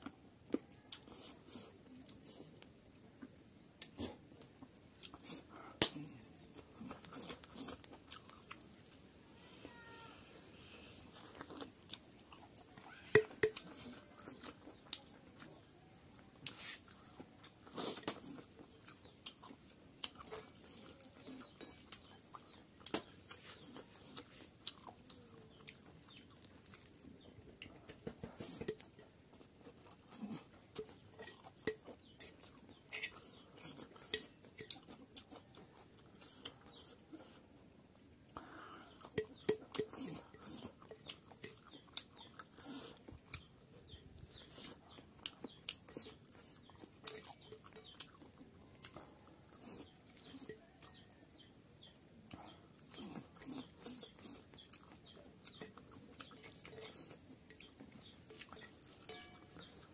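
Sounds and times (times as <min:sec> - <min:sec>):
person chewing food: 0:00.0 - 0:09.1, 0:10.6 - 0:37.6, 0:38.3 - 0:59.9.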